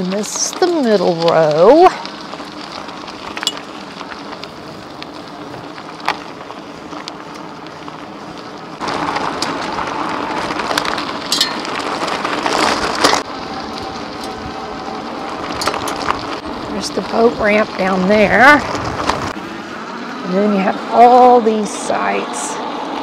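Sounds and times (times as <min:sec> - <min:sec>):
tyres crunching over gravel: 0:00.0 - 0:22.1.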